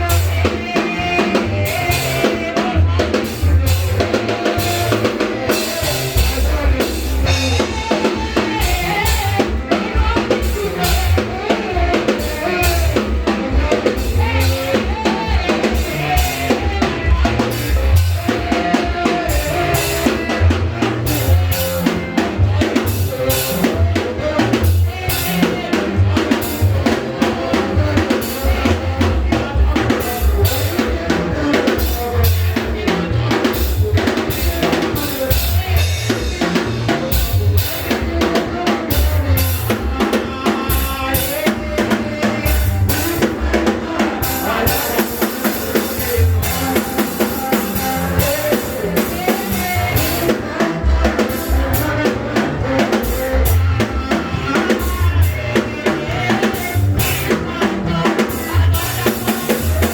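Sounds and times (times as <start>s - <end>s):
bass drum and snare beat: 0.0s - 59.9s
upbeat praise music: 0.0s - 59.9s.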